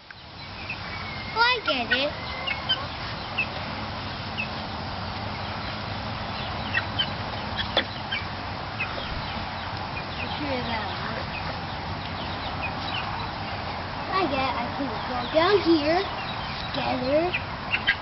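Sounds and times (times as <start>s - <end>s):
steady background noise: 0.0s - 18.0s
hen calling: 0.4s - 18.0s.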